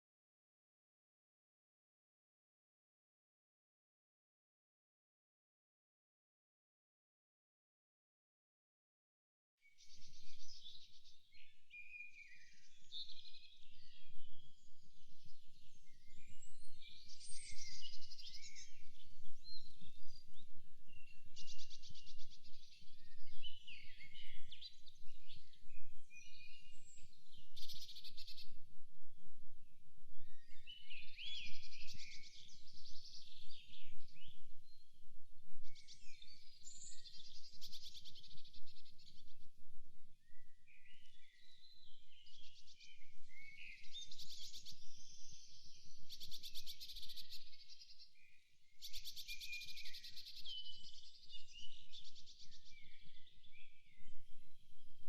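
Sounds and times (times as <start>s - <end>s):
songbirds singing: 9.6s - 55.0s.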